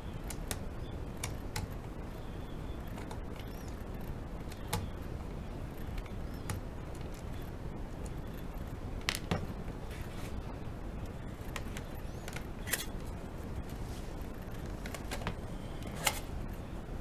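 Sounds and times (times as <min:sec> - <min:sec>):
steady low hum: 0:00.0 - 0:17.0
clicks and taps from handling objects: 0:00.1 - 0:16.2.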